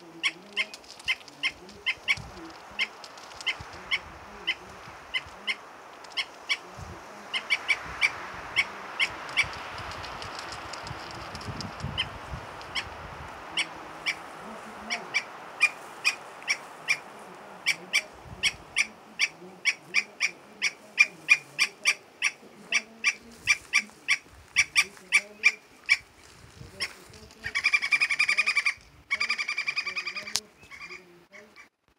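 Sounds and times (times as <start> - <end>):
bird chattering trill: 0.0 - 26.2, 26.8 - 31.7.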